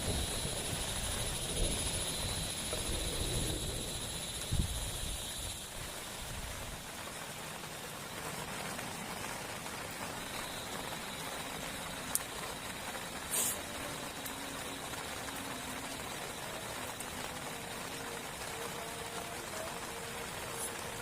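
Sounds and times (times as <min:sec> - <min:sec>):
steady rain hissing: 0:00.0 - 0:21.0.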